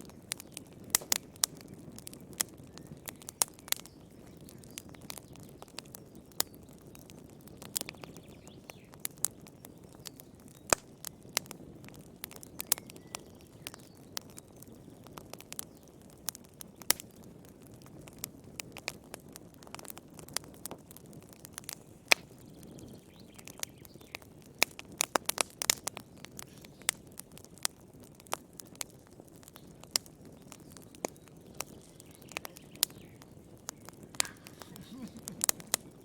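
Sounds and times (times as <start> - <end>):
low rumble of burning: 0.0 - 36.0
sharp pops of fire: 0.0 - 36.0
wood fire crackling: 0.0 - 36.0.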